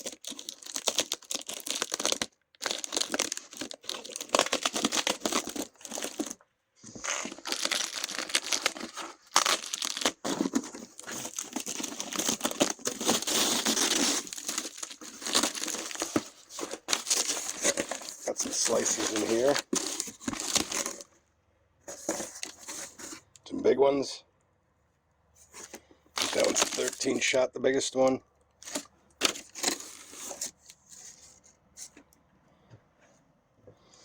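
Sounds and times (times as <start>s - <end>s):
packaging crinkling and rustling: 0.0s - 21.2s, 21.9s - 23.2s, 25.4s - 27.4s, 28.5s - 32.1s.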